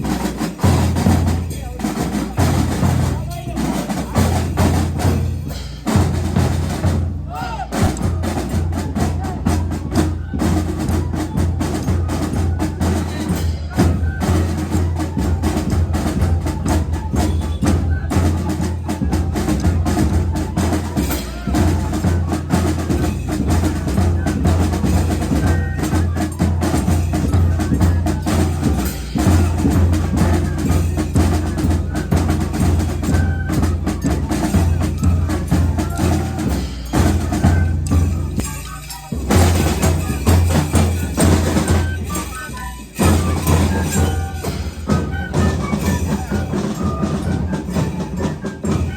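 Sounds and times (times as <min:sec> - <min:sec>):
rapid drum strikes: 0:00.0 - 0:14.9, 0:15.6 - 0:42.3.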